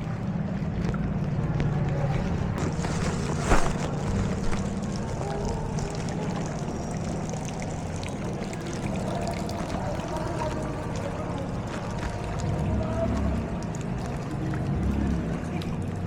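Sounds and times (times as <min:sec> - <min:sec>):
floodwater sloshing and splashing: 0:00.0 - 0:16.0.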